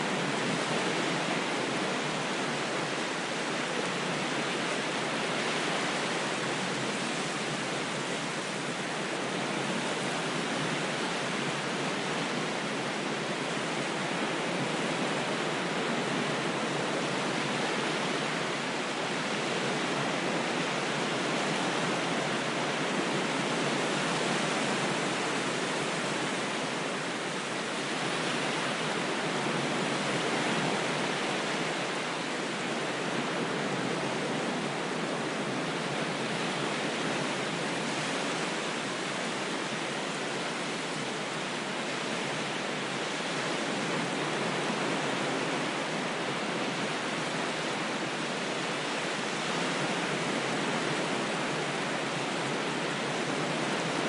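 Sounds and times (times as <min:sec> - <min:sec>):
waves washing: 0:00.0 - 0:54.0.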